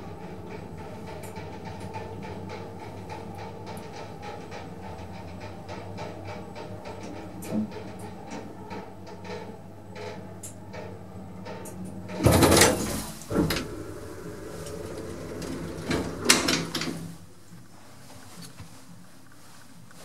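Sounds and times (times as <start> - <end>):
lift mechanical hum: 0.0 - 20.0.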